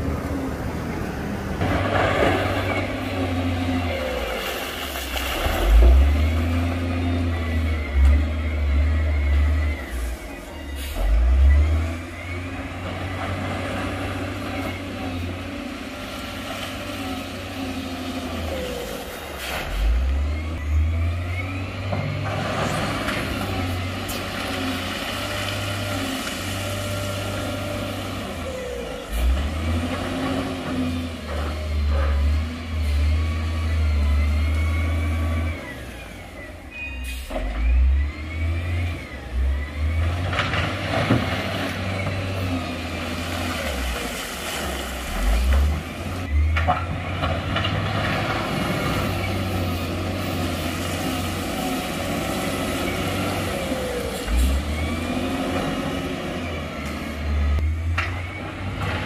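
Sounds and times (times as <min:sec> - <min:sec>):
heavy diesel engines revving: 0:00.0 - 0:59.0.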